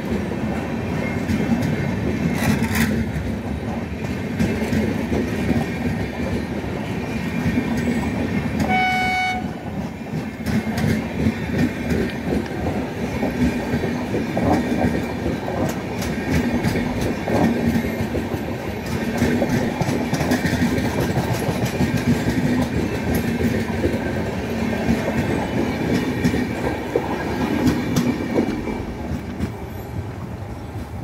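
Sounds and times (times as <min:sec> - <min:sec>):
wheels clacking over rail joints: 0:00.0 - 0:29.8
train wheel-on-rail rumble: 0:00.0 - 0:31.0.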